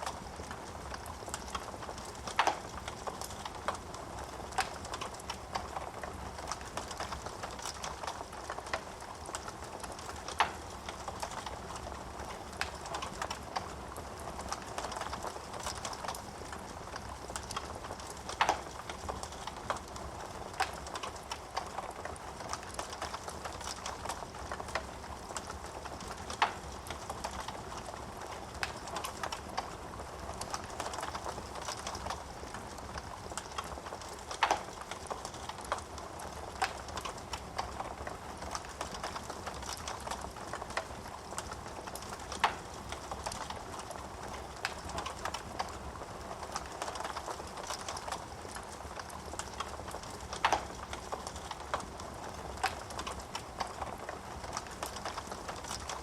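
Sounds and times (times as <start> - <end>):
fire hissing and crackling: 0.0 - 56.0.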